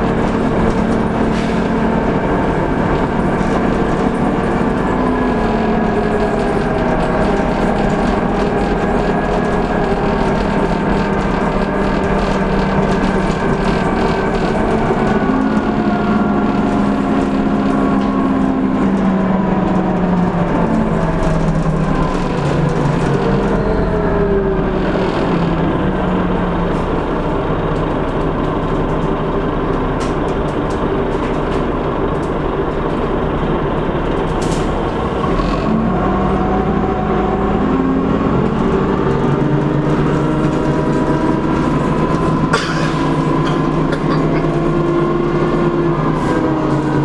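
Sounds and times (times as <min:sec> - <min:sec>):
bus engine running: 0:00.0 - 0:47.0.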